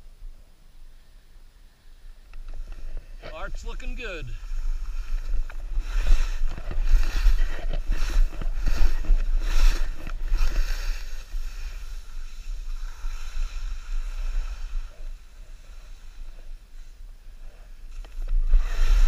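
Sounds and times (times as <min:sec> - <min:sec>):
wind rumbling on microphone: 0:01.9 - 0:19.0
skis swishing through snow: 0:02.6 - 0:19.0.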